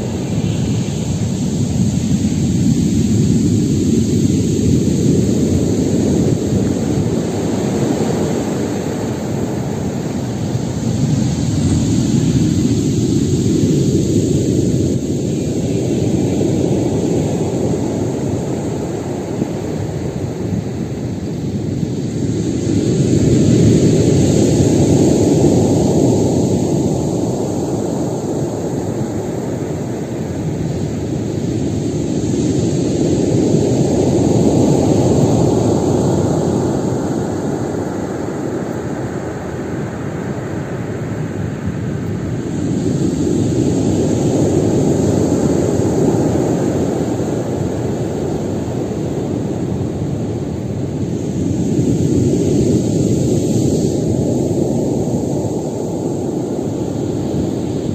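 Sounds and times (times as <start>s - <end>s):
heavy waves breaking: 0.0s - 57.9s.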